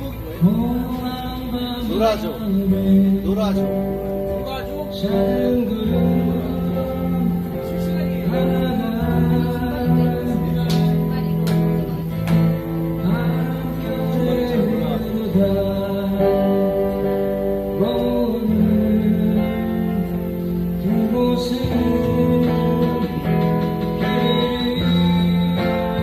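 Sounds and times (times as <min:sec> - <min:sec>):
acoustic guitars strumming: 0:00.0 - 0:26.0
person singing long notes: 0:04.8 - 0:26.0.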